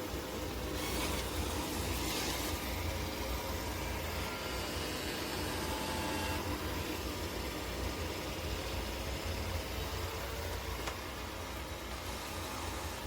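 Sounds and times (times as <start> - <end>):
robot vacuum motor hum: 0.0 - 13.0.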